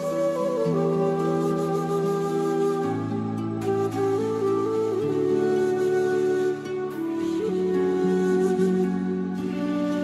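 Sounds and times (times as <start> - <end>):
slow gentle instrumental music: 0.0 - 10.0.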